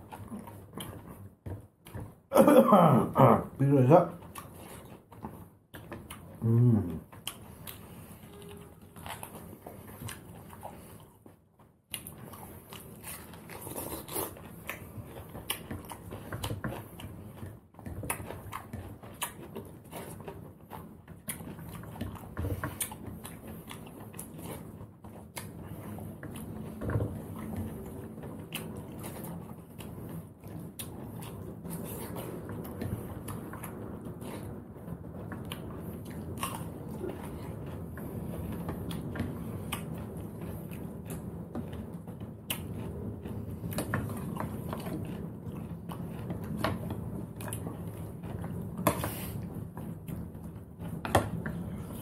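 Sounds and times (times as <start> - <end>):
eating and chewing by hand: 0.0 - 52.0.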